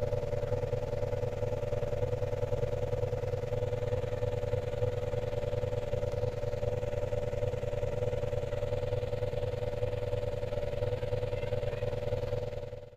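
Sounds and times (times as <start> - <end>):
pickup engine idling: 0.0 - 12.9.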